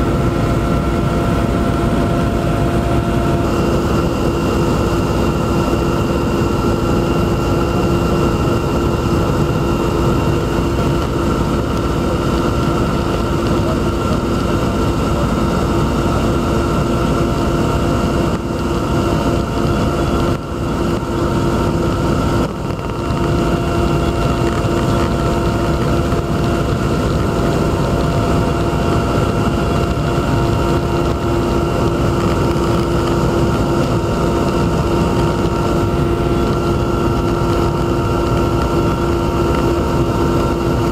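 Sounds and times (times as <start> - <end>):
aircraft engines droning in cabin: 0.0 - 40.9.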